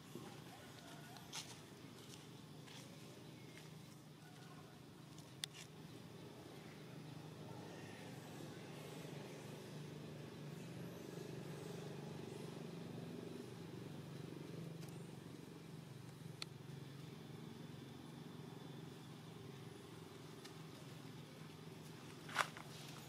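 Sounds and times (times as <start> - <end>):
faint motor hum: 0.0 - 23.0.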